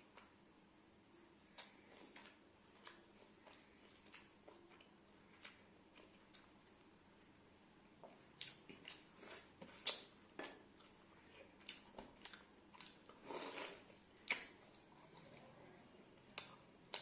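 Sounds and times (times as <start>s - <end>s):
low steady hum: 0.0s - 17.0s
person chewing food: 1.1s - 7.0s, 7.9s - 17.0s.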